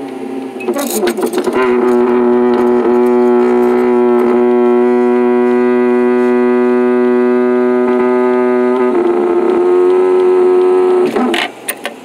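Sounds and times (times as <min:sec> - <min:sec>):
hydraulic boom droning: 0:00.0 - 0:11.5.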